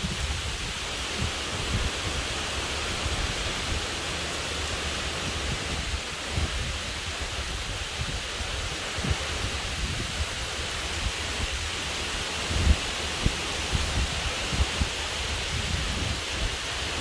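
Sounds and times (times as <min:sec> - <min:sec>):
heavy rain falling: 0:00.0 - 0:17.0
wind buffeting microphone: 0:00.0 - 0:17.0.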